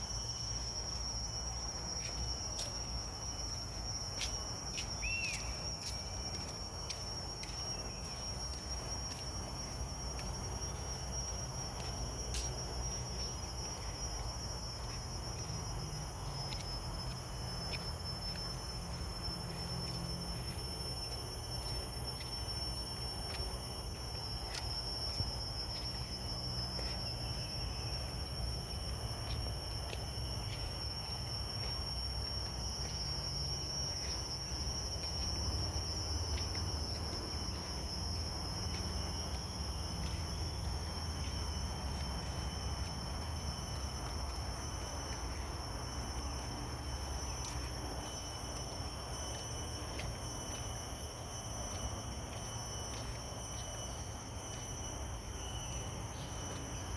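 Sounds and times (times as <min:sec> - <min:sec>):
insects trilling: 0:00.0 - 0:56.9.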